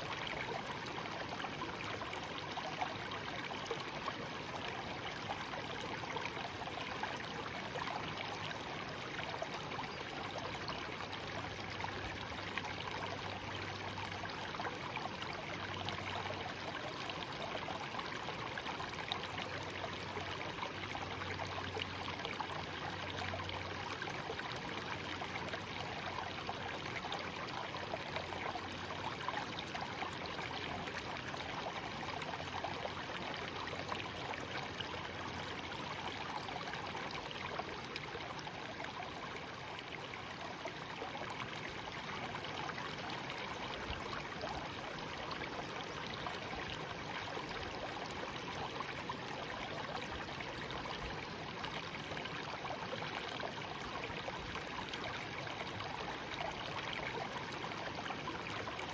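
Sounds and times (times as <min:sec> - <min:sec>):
stream babbling over stones: 0:00.0 - 0:58.9.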